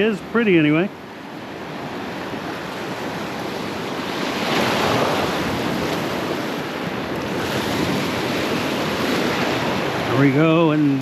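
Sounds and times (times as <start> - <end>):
ocean surf washing in: 0.0 - 11.0.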